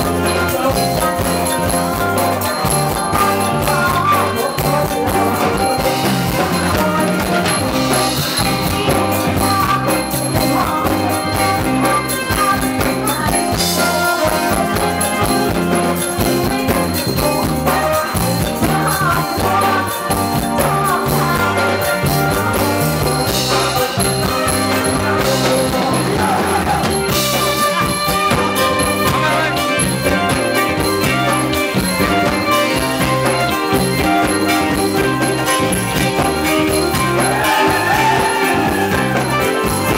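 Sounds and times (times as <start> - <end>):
live band playing dance music: 0.0 - 39.9.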